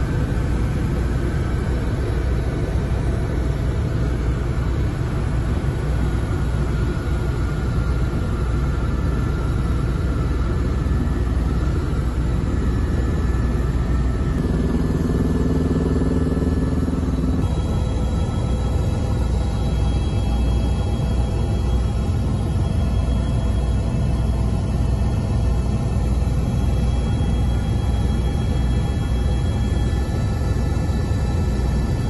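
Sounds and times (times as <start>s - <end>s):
helicopter turbine and rotor: 0.0s - 32.0s.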